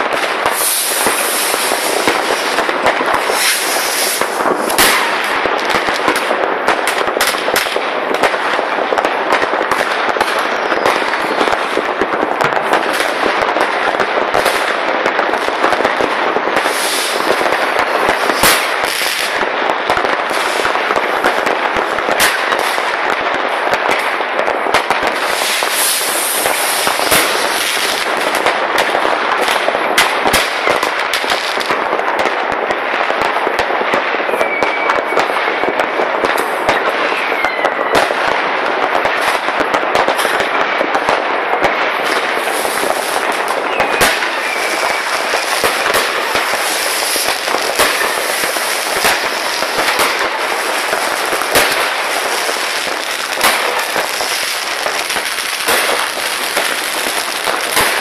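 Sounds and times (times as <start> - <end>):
fireworks crackling: 0.0 - 58.0
loud firework bangs: 0.0 - 58.0.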